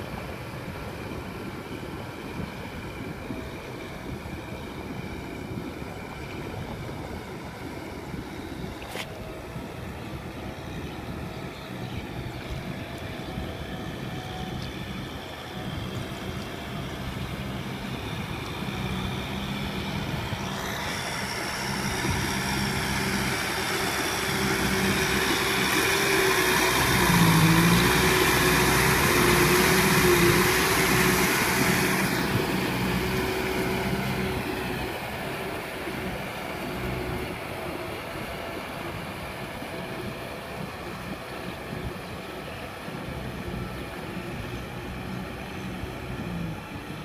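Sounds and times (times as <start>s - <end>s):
steady whine: 0.0s - 47.0s
tiller churning mud and water: 0.0s - 47.0s
tractor diesel engine running: 0.0s - 47.0s.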